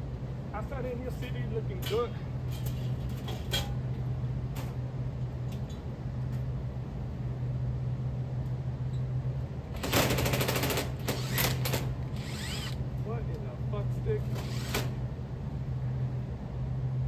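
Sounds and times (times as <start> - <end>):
air conditioning unit humming: 0.0 - 17.0.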